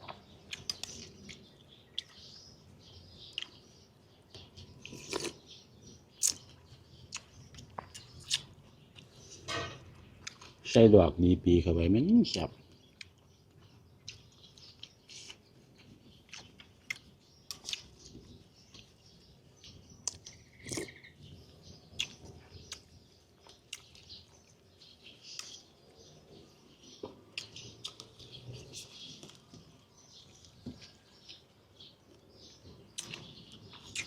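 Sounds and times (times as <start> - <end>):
person chewing food: 0.0 - 2.4, 3.2 - 3.6, 4.3 - 5.5, 6.2 - 10.6, 12.8 - 19.0, 19.6 - 26.0, 27.0 - 34.0
small birds chirping: 0.0 - 34.0.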